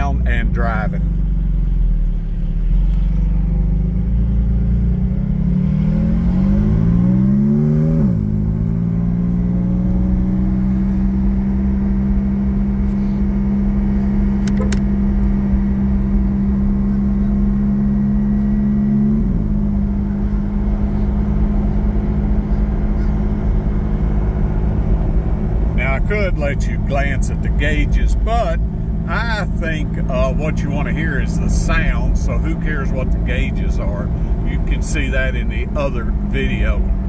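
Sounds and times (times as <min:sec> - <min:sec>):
sports car engine accelerating: 0:00.0 - 0:37.0.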